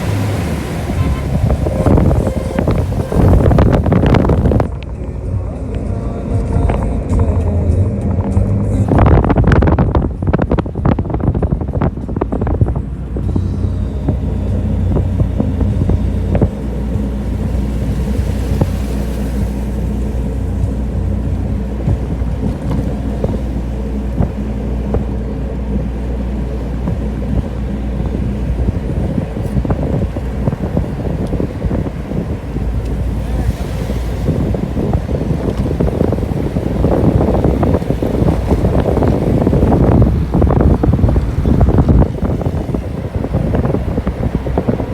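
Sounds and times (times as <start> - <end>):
vehicle rumbling: 0.0 - 44.9
wind noise on microphone: 0.0 - 44.9.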